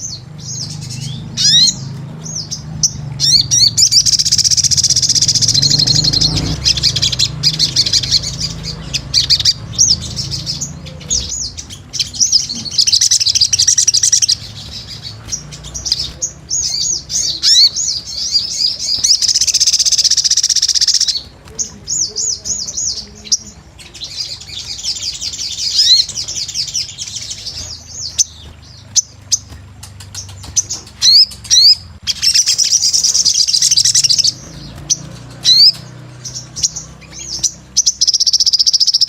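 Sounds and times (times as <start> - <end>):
sunbird trilling and chirping: 0.0 - 39.0.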